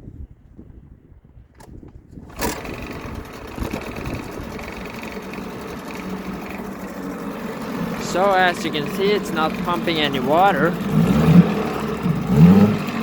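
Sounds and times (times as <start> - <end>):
outboard motor pull-start: 1.5 - 13.0
outboard motor running: 2.2 - 13.0.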